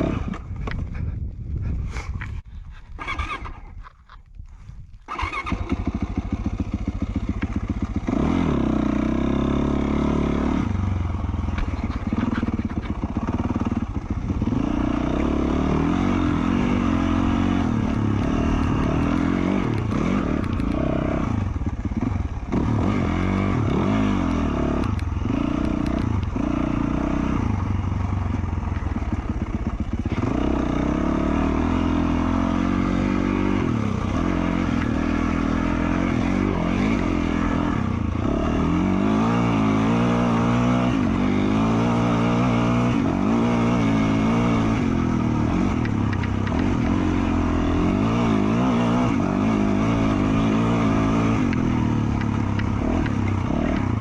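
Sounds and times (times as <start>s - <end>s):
dirt bike engine revving: 0.0s - 0.5s, 3.0s - 3.6s, 5.1s - 54.0s.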